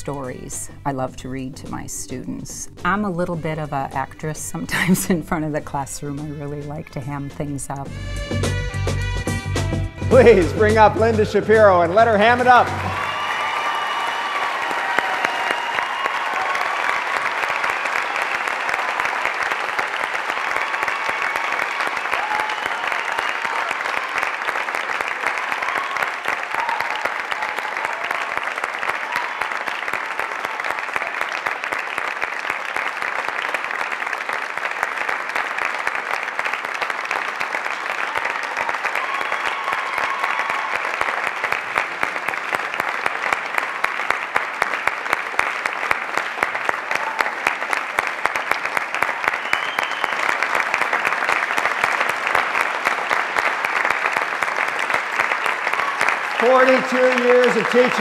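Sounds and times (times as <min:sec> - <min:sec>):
audience applauding: 0:10.0 - 0:58.0.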